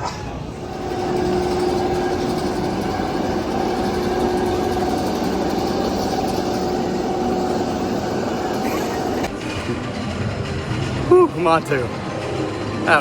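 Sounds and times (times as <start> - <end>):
constant whine: 0.0 - 13.0
roller coaster rumbling on track: 0.0 - 13.0.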